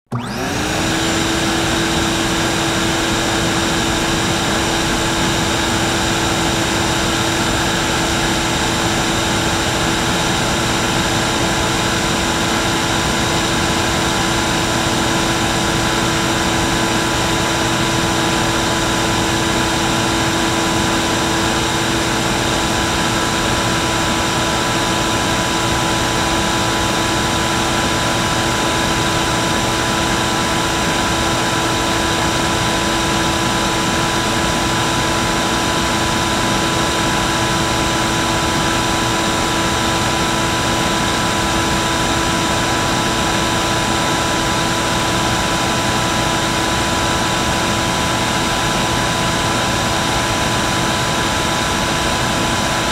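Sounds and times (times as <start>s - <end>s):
vacuum cleaner motor whine: 0.1s - 52.9s.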